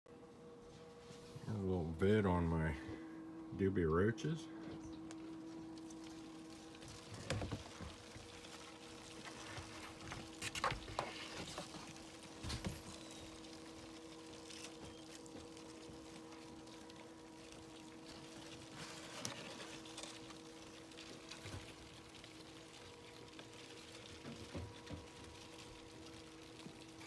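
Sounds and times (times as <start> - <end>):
steady low hum: 0.1 - 27.0
cardboard egg flats rustling: 5.2 - 27.0.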